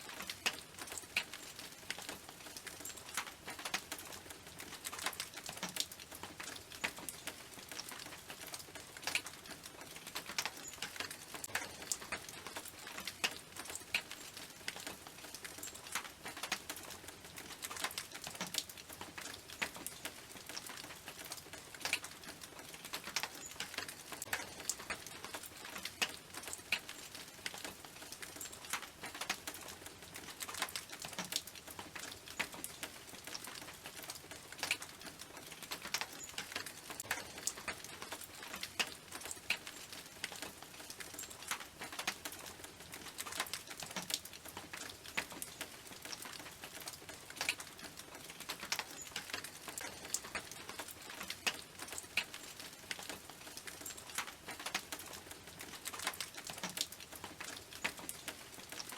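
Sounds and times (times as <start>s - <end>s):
rain on a tin roof: 0.0s - 58.9s.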